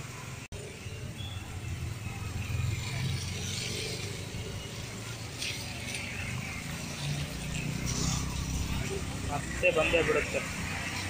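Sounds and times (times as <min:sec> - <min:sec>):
tyre noise on road: 0:00.0 - 0:11.0
vehicle engine passing: 0:01.6 - 0:11.0.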